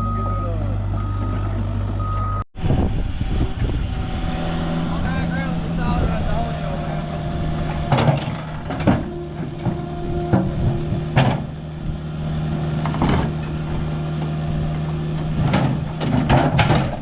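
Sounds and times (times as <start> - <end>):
excavator diesel engine straining: 0.0 - 17.0.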